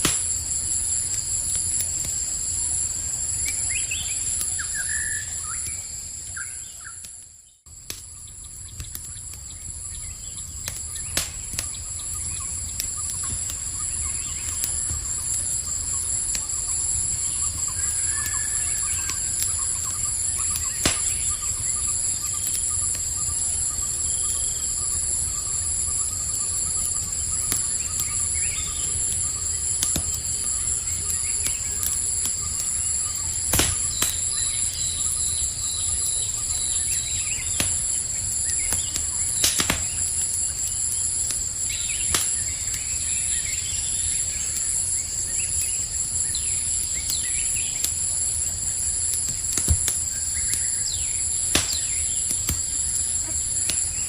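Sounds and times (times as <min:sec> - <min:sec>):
campfire crackling and popping: 0:00.0 - 0:54.0
night insects chirring: 0:00.0 - 0:54.0.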